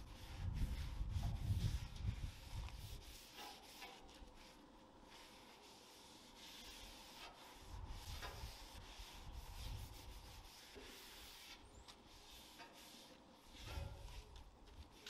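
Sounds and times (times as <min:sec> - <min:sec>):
paper towel wiping griddle: 0:00.0 - 0:15.0.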